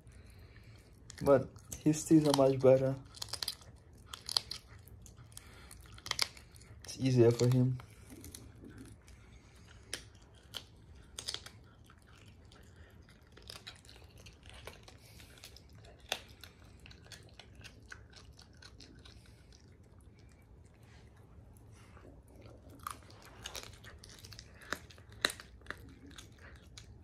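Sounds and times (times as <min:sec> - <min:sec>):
cat chewing bones: 0:00.0 - 0:27.0.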